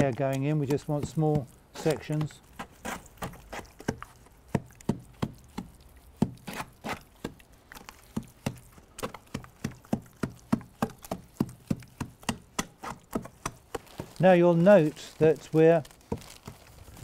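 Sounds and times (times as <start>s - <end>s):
wooden pole pounding plaster: 0.0s - 15.2s.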